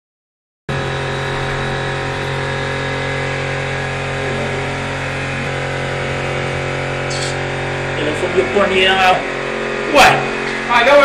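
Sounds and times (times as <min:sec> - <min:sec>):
machine hum: 0:00.7 - 0:11.0.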